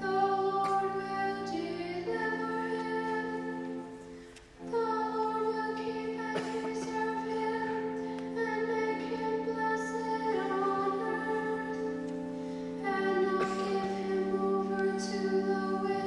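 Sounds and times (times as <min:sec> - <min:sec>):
woman singing: 0:00.0 - 0:03.9, 0:04.6 - 0:12.0, 0:12.8 - 0:16.0
church organ chords: 0:00.0 - 0:16.0.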